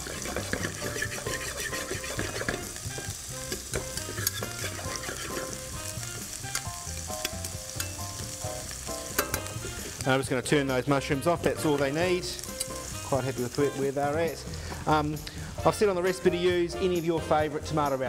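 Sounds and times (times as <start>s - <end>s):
mushrooms sizzling in a frying pan: 0.0s - 18.0s.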